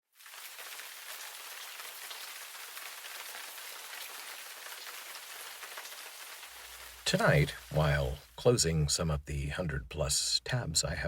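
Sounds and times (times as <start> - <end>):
rain falling: 0.1 - 9.1.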